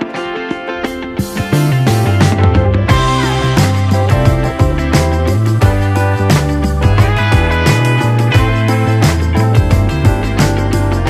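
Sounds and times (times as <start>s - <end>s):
guitar: 0.0s - 11.0s
steady beat: 0.0s - 11.0s
bass line: 1.6s - 11.0s.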